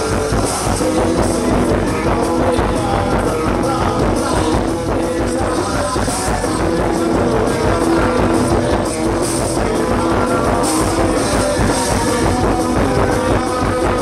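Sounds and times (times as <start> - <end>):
live rock band playing: 0.0 - 14.0
steady drum beat: 0.0 - 14.0.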